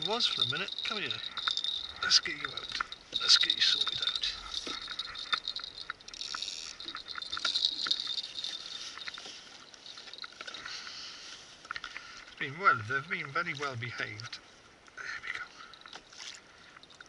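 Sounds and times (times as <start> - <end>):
water lapping against hull: 0.0 - 12.4, 15.4 - 17.0.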